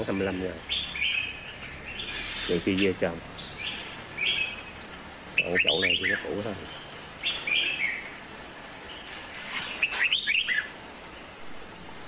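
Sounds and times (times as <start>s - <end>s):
small bird chirping: 0.0s - 11.4s.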